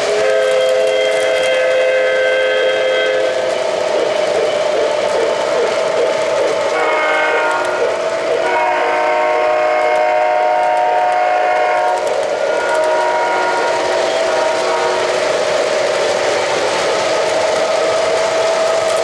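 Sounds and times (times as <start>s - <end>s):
model train rolling on track: 0.0s - 19.0s.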